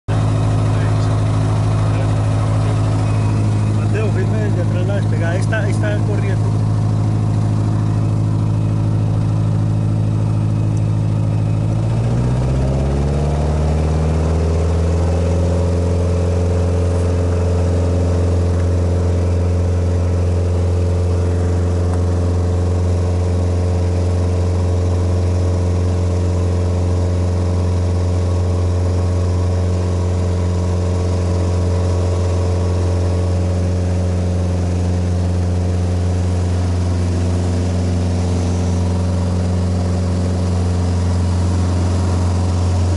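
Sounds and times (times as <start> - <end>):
light aircraft engine and propeller: 0.1 - 42.9.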